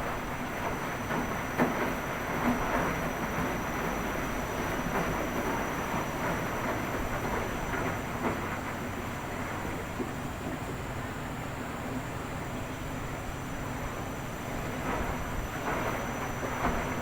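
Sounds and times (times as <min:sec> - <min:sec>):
washing machine churning: 0:00.0 - 0:17.0.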